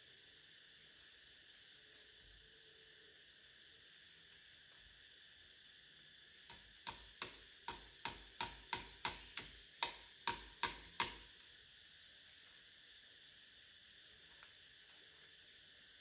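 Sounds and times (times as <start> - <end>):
faint high-pitched hum: 0.0 - 16.0.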